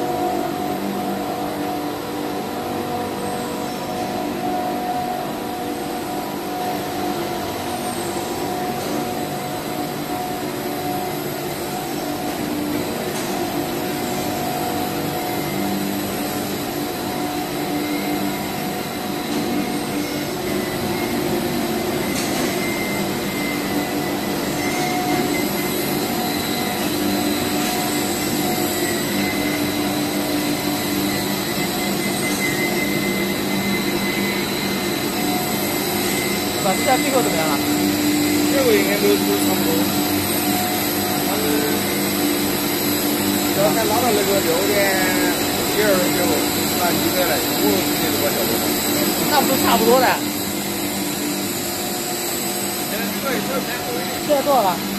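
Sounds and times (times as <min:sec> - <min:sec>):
machinery whirring and humming: 0:00.0 - 0:54.9.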